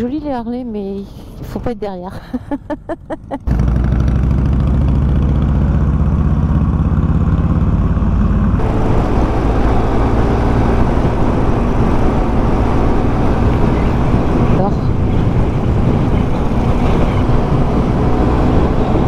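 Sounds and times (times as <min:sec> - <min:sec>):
motorcycle engines running: 0:02.7 - 0:19.0.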